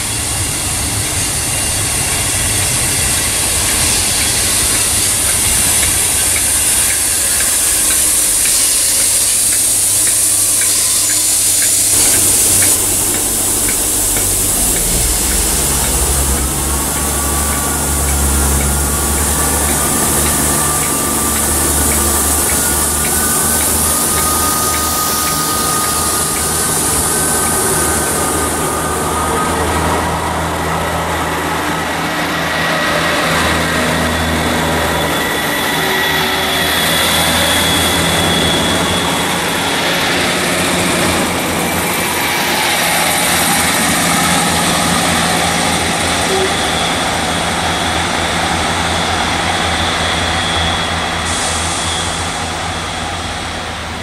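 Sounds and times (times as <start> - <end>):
diesel engine drone: 0.0 - 54.0
train wheels on rails: 0.0 - 54.0
whining tones: 0.0 - 54.0.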